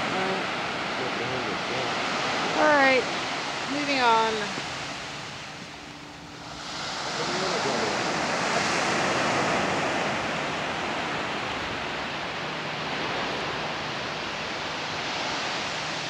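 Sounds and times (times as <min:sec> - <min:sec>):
waves breaking on sandy beach: 0:00.0 - 0:16.0.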